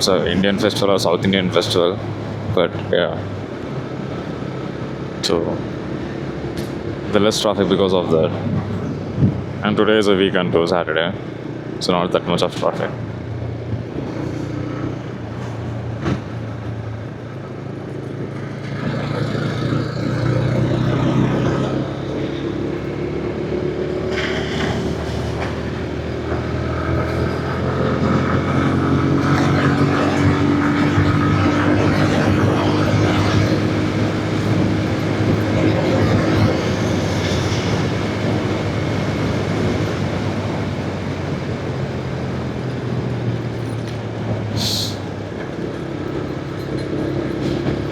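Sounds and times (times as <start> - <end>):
wind and road noise: 0.0 - 47.9.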